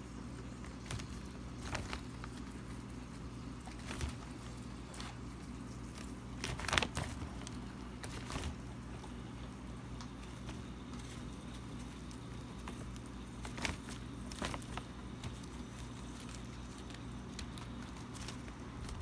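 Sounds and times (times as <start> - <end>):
steady low hum: 0.0 - 19.0
plastic bag crackling: 0.3 - 19.0.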